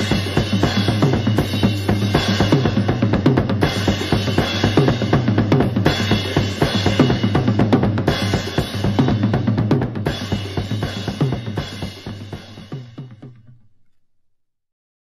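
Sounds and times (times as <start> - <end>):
drum-led instrumental music: 0.0 - 14.2.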